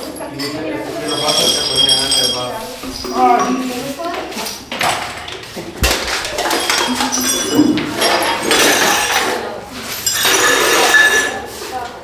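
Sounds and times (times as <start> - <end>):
faint voices: 0.0 - 10.0
household objects clinking and knocking: 0.4 - 11.5.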